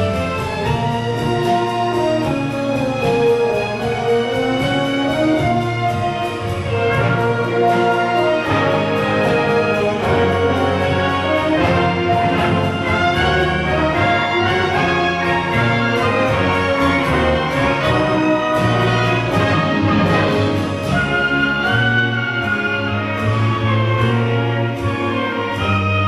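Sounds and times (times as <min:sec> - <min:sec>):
brass: 0:00.0 - 0:26.0
orchestra playing christmas songs: 0:00.0 - 0:26.0
percussion beat: 0:00.0 - 0:26.0.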